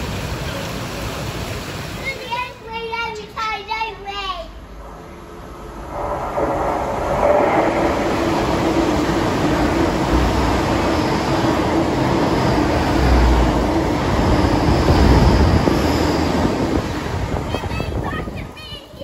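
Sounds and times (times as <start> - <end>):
steady train hum: 0.0 - 19.0
train wheels rumbling on rails: 0.0 - 19.0.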